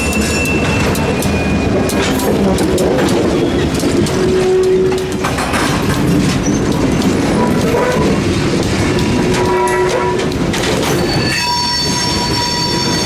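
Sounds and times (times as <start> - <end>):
diesel locomotive: 0.0 - 13.0
train wheels clattering over rails: 0.0 - 13.0.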